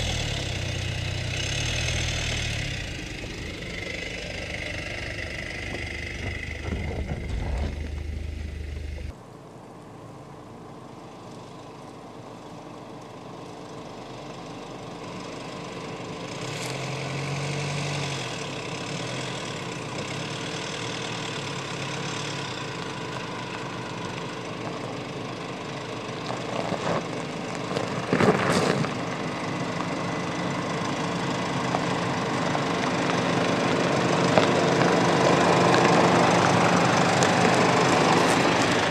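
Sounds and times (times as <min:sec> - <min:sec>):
tyres crunching on gravel: 0:00.0 - 0:09.1, 0:16.4 - 0:38.9
car engine at low revs: 0:00.0 - 0:38.9.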